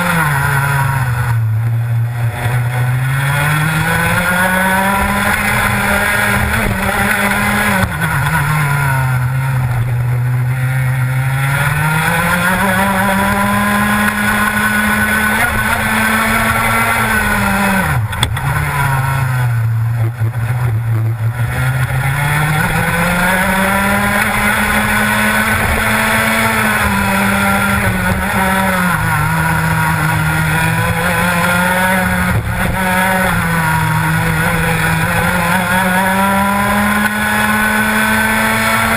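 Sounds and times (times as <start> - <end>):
kart engine at racing revs: 0.0 - 38.9.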